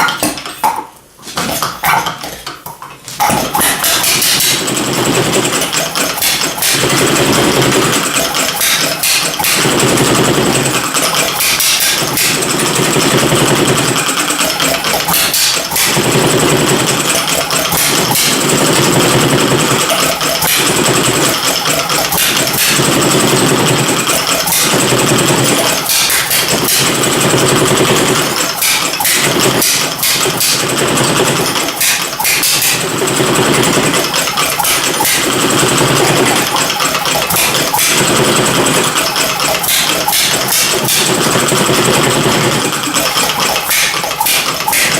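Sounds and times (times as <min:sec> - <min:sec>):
hit-and-miss engine firing: 0:03.2 - 0:44.9.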